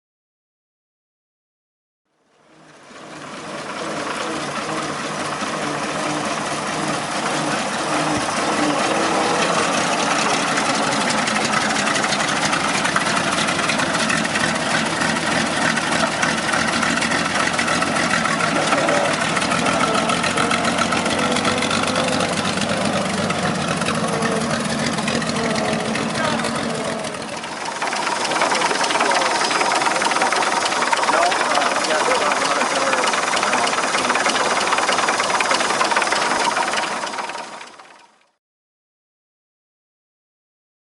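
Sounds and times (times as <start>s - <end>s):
truck engine idling: 2.5s - 38.4s.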